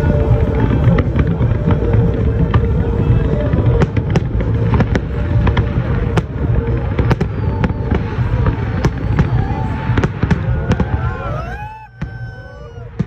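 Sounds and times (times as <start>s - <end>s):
fireworks booming: 0.0s - 13.0s
fireworks crackling and popping: 0.0s - 13.0s.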